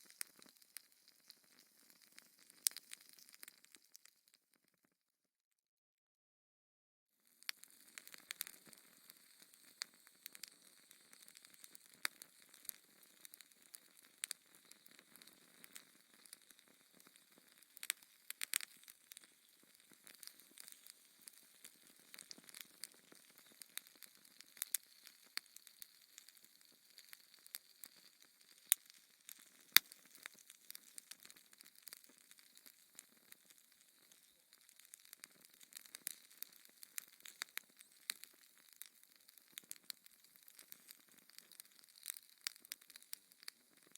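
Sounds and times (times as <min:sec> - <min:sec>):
wood fire crackling: 0:00.0 - 0:04.1, 0:07.4 - 0:43.9.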